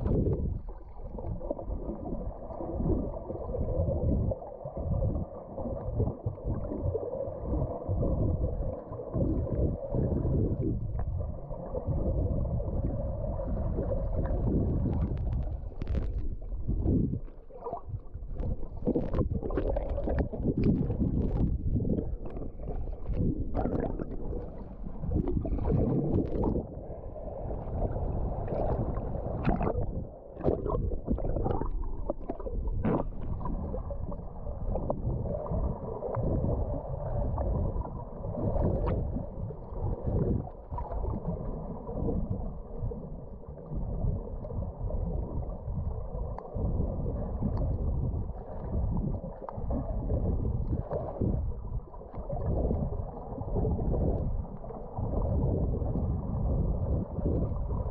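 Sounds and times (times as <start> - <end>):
underwater rumble and sloshing: 0.0 - 57.9.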